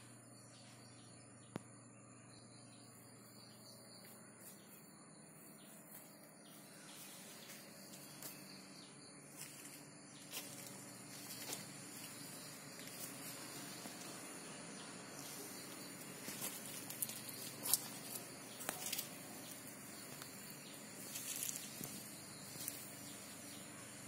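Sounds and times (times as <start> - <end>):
insect trill: 0.0 - 24.0.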